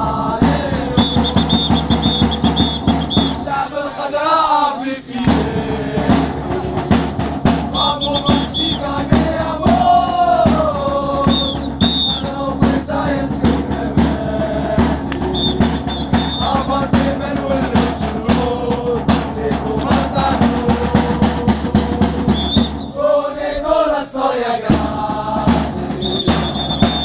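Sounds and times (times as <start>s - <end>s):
steady drum beat: 0.0s - 3.8s, 5.1s - 27.0s
voices singing a chant: 0.0s - 27.0s.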